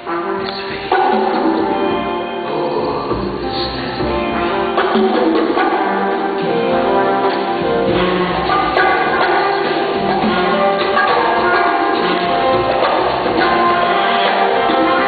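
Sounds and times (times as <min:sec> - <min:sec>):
live band music: 0:00.0 - 0:15.0
light percussion: 0:00.4 - 0:15.0.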